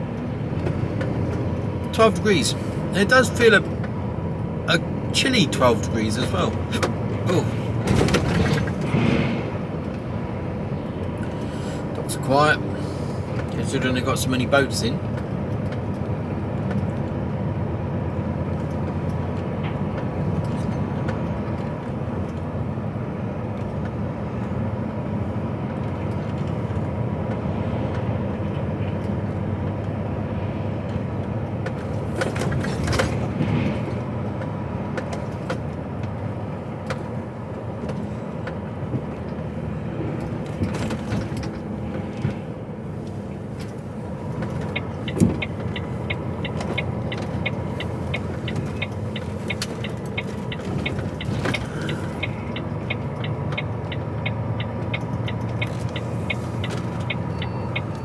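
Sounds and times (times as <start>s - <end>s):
lorry engine and road rumble: 0.0s - 58.0s.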